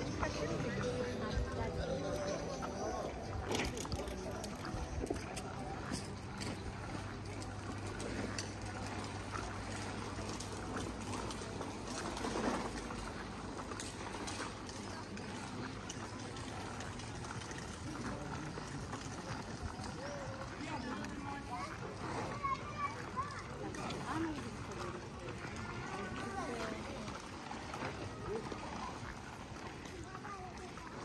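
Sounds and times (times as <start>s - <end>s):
faint voices of passers-by: 0.0s - 31.0s.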